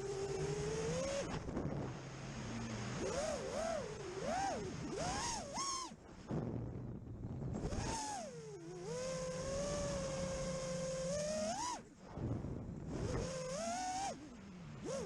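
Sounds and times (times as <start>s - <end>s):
quadcopter motors whining: 0.0s - 6.0s, 7.5s - 15.0s.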